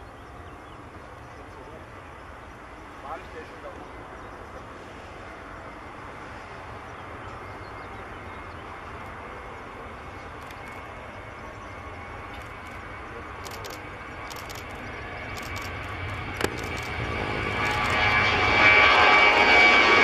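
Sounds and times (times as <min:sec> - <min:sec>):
jet engines rushing at takeoff: 0:00.0 - 0:20.0.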